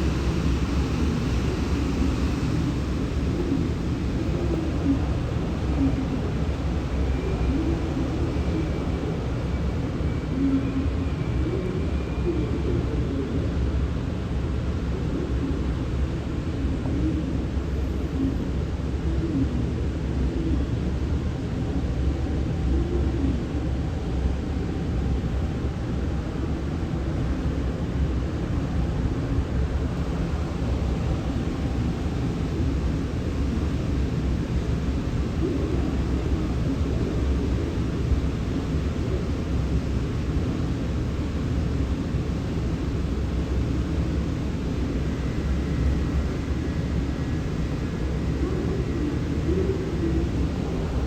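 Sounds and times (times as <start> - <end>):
railway platform background rumble: 0.0 - 51.0.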